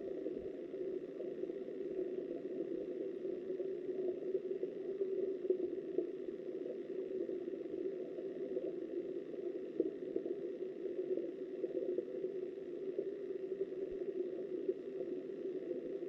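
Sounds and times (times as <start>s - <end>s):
muffled underwater river rushing: 0.0s - 16.0s.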